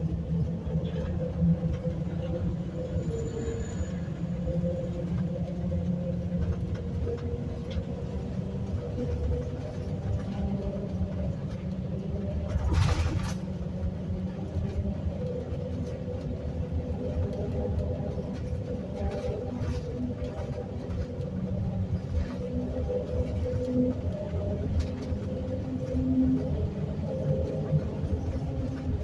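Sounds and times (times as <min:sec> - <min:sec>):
road and engine rumble inside vehicle: 0:00.0 - 0:29.0.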